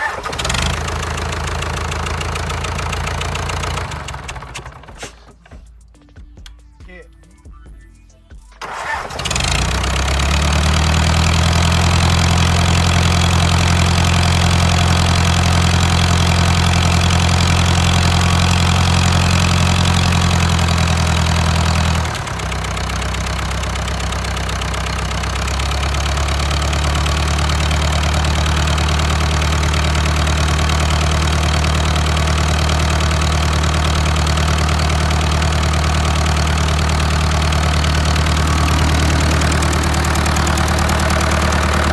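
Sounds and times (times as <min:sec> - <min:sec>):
diesel engine idling: 0:00.0 - 0:05.4, 0:08.6 - 0:41.9.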